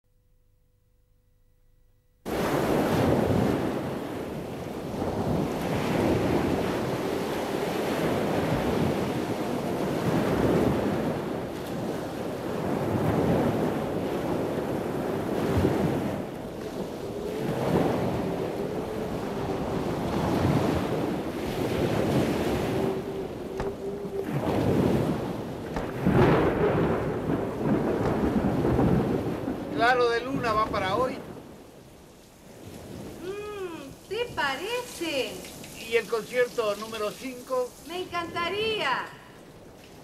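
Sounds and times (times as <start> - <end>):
wind: 2.2 - 40.0
sea waves breaking: 2.3 - 40.0.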